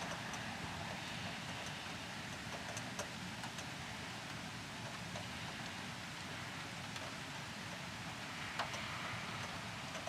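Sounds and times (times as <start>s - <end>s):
steady rain falling: 0.0s - 10.0s
faint ticks: 1.3s - 10.0s.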